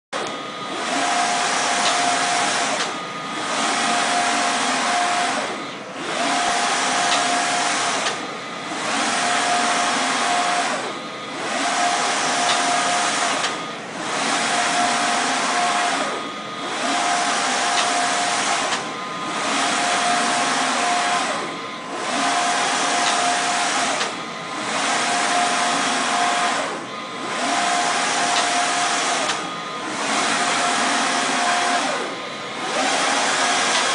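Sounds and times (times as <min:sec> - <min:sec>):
printer whirring with thin whine: 0:00.2 - 0:33.9.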